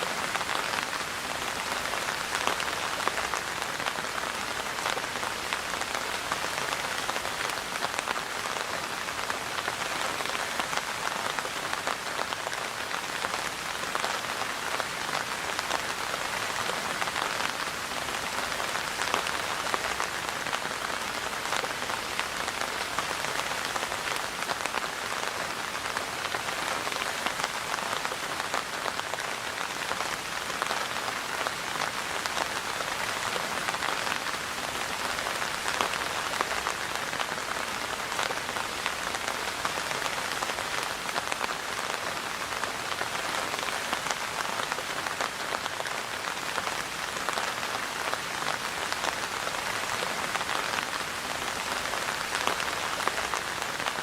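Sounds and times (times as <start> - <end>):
rain pattering on surface: 0.0 - 54.0.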